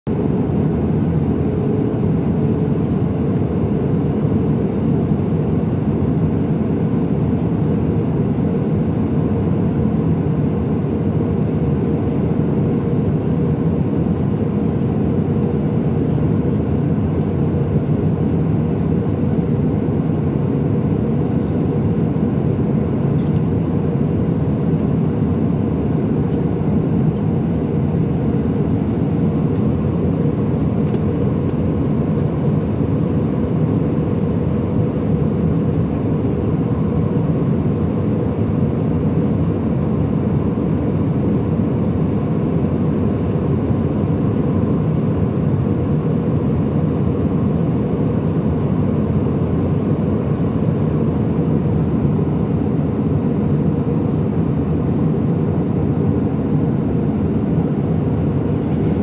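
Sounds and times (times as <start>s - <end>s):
airplane cabin airflow and engines: 0.0s - 59.0s.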